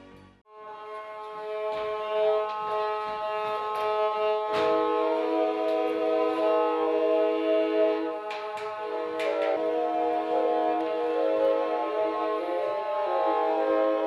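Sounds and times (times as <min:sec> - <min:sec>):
bowed fiddles playing held notes: 0:00.0 - 0:14.0.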